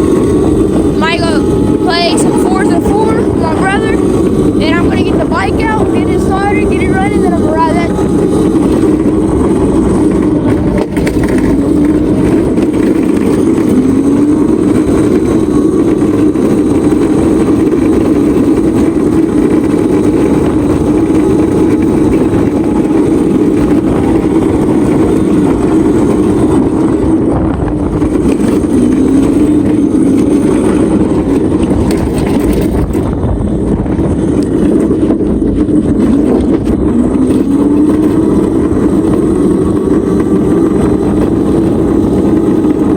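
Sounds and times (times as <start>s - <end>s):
small vehicle motor running: 0.0s - 42.9s.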